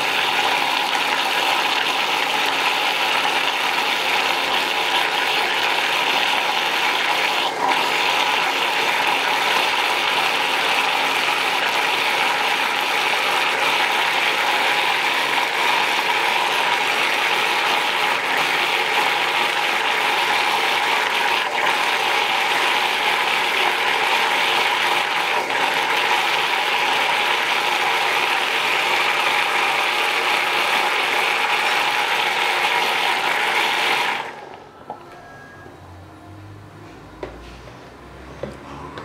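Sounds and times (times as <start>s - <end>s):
kitchen machine grinding whirr: 0.0s - 39.0s.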